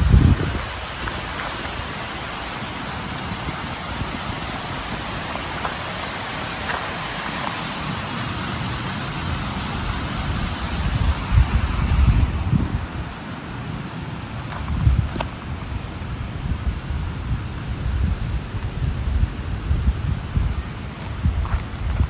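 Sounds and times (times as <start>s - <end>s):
steady outdoor rushing noise: 0.0s - 22.0s.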